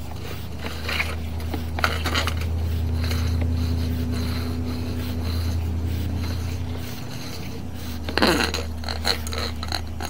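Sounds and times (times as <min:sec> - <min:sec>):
cable scraping and rattling: 0:00.0 - 0:10.0
steady low hum: 0:00.0 - 0:10.0.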